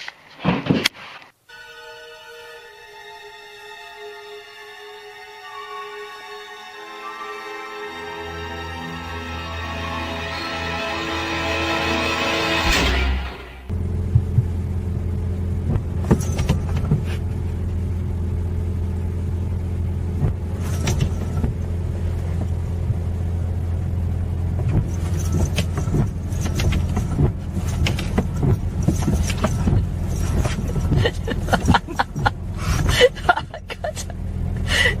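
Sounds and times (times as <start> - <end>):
low hum: 1.5 - 35.0.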